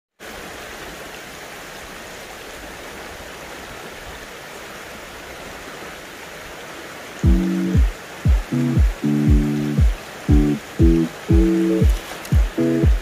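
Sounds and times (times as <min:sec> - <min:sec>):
running water rushing: 0:00.2 - 0:13.0.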